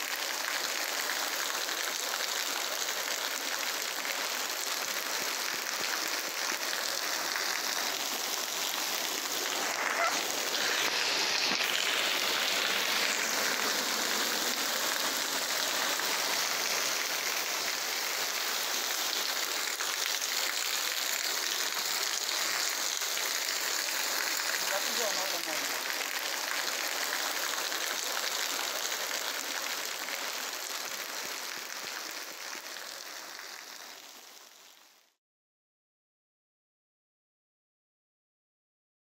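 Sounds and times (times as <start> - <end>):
floodwater running: 0.0 - 34.7
heavy rain: 0.0 - 35.0.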